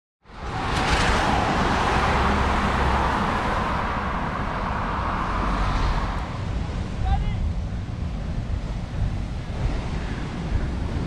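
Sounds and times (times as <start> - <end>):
road traffic noise: 0.2 - 11.0
wind rumbling on microphone: 0.2 - 11.0.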